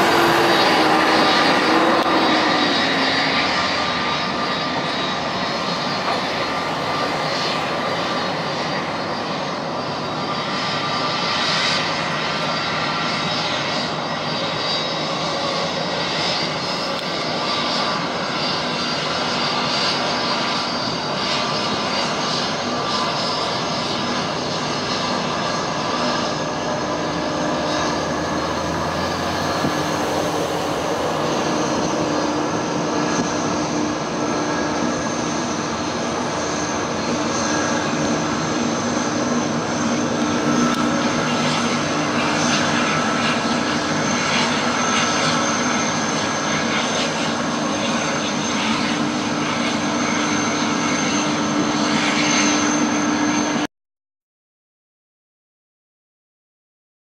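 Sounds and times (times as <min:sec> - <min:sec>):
jet engines whining: 0:00.0 - 0:53.7.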